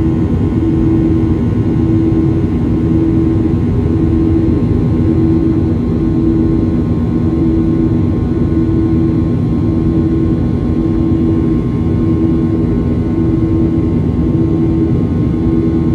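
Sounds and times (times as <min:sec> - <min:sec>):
jet engine cabin roar: 0:00.0 - 0:15.9.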